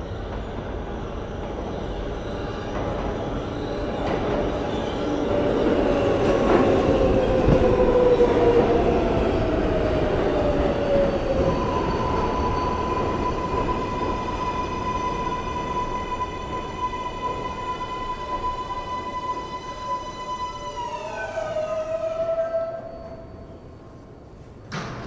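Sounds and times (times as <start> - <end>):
train whine: 0.0 - 24.9
subway train wheels rumbling on rails: 0.0 - 25.0.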